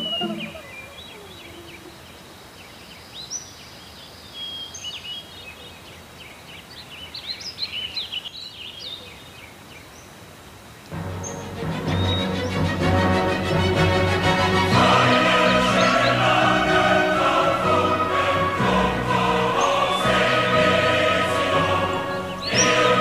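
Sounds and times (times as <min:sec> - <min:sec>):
small birds chirping: 0:00.0 - 0:10.2, 0:11.2 - 0:12.8, 0:14.8 - 0:18.3, 0:19.1 - 0:23.0
steady background hiss: 0:00.0 - 0:23.0.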